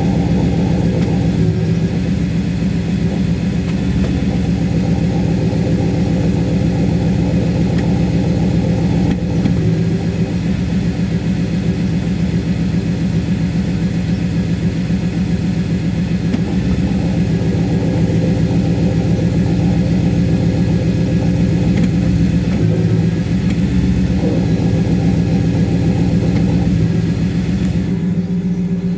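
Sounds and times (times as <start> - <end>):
car engine running: 0.0 - 28.9
gearbox low hum: 0.0 - 28.9.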